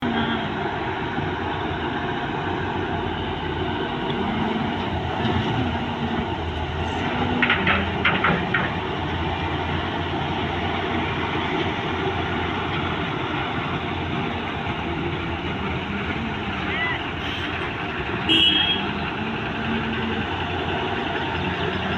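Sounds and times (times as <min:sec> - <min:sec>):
excavator engine and hydraulics: 0:00.0 - 0:21.9.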